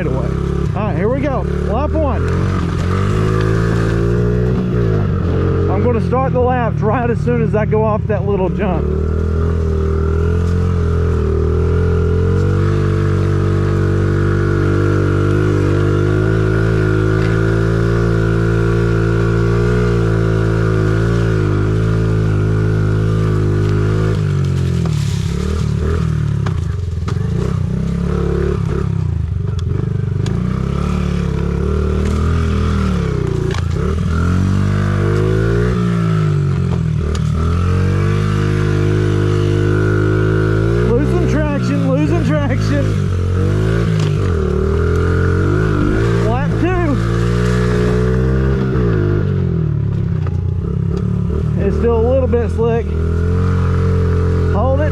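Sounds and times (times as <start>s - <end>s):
small motorbike engine revving: 0.0s - 7.0s, 8.6s - 54.9s.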